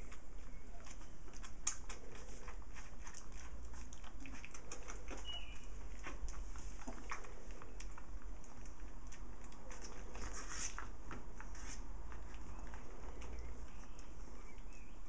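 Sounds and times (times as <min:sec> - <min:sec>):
puppies suckling and rustling: 0:00.0 - 0:15.0.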